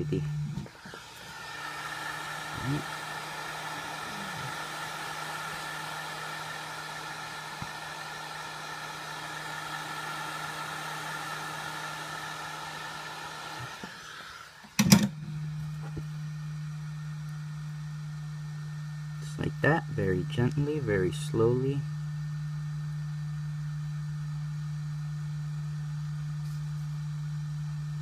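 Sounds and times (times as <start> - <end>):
low steady hum: 0.0 - 11.5, 14.8 - 28.0
hot-air blower running: 0.0 - 28.0.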